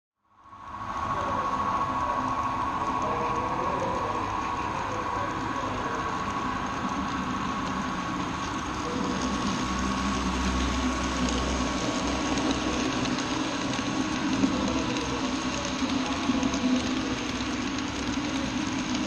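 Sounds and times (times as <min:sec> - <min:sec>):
model train rolling on track: 0:00.4 - 0:19.0.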